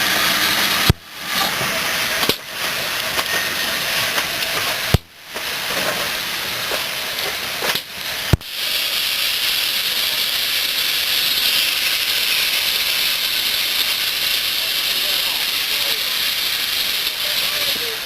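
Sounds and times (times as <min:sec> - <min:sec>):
steam locomotive hissing steam: 0:00.0 - 0:18.0.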